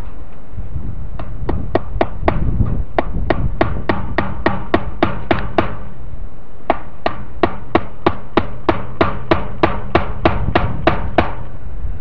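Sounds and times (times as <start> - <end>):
hammer blows on wood: 1.2 - 6.0, 6.7 - 11.5.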